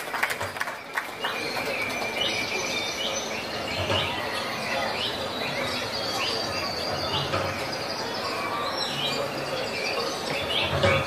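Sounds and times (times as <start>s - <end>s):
bird chirps: 0.8s - 11.0s.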